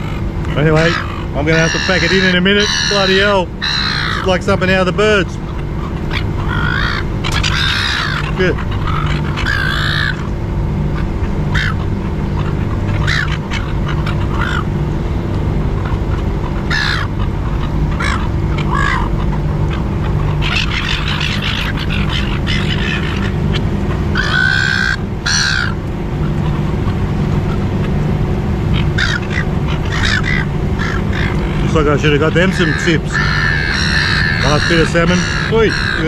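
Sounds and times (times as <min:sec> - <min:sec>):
gulls squawking: 0:00.0 - 0:36.0
low hum: 0:00.0 - 0:36.0.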